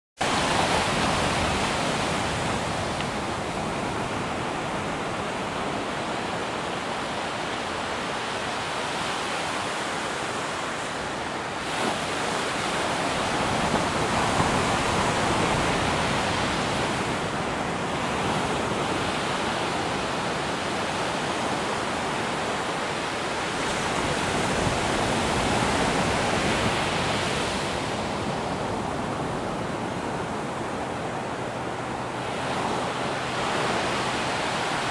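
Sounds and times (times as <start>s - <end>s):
ocean surf breaking on beach: 0.2s - 34.9s.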